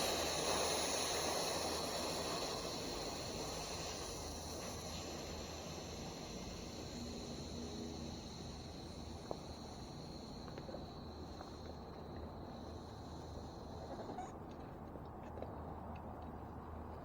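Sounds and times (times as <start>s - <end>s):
air hissing from tyre valve: 0.0s - 14.2s.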